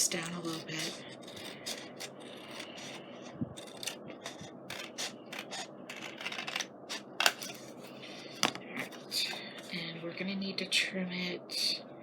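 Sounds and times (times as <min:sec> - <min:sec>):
scissors cutting paper: 0:00.0 - 0:09.8.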